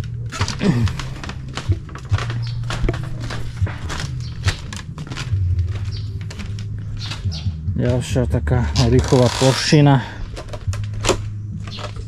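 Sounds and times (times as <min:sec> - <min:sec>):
footsteps on bamboo walkway: 0:00.0 - 0:12.0.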